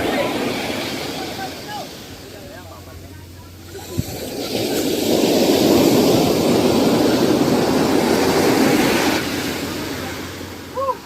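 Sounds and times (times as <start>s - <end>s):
sea wave breaking: 0.0s - 2.5s, 3.6s - 11.0s.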